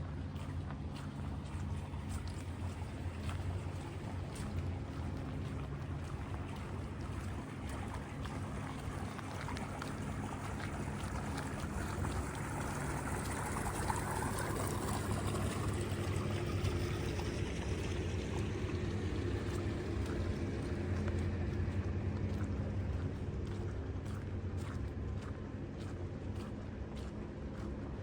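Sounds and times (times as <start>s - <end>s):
running water: 0.0s - 27.7s
low engine hum: 0.0s - 28.0s.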